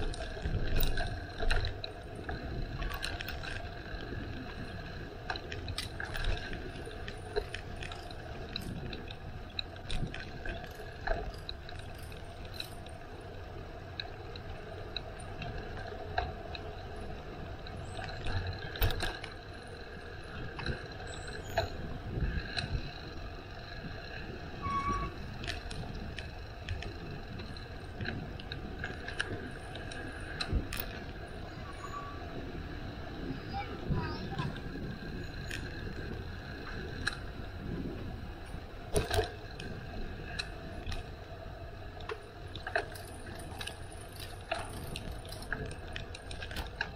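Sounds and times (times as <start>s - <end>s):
bicycle rattles and clicks: 0.0s - 46.9s
bicycle rolling rumble: 0.0s - 46.9s.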